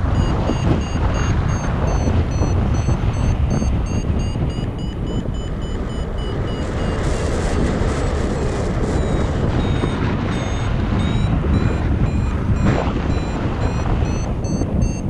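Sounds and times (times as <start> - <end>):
variometer beeping rapidly: 0.0 - 15.0
wind rushing over microphone: 0.0 - 15.0.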